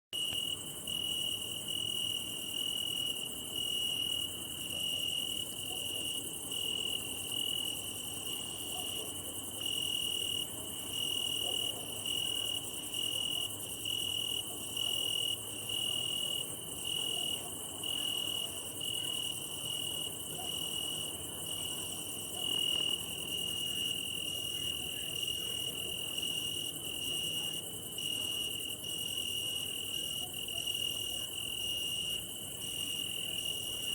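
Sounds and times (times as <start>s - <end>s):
crickets chirping: 0.2s - 33.9s.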